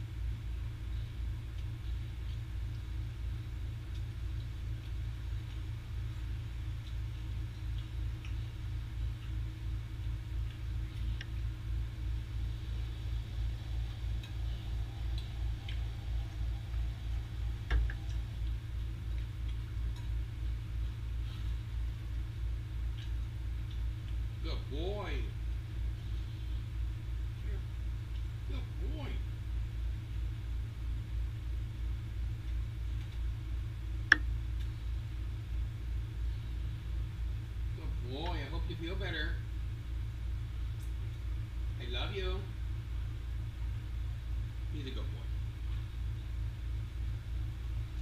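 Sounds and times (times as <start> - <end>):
low pulsing hum: 0.0 - 48.0.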